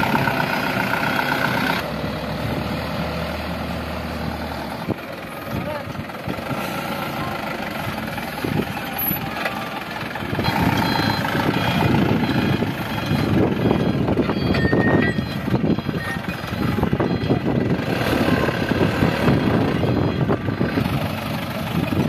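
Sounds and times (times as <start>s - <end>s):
diesel engines running under load: 0.0s - 22.0s.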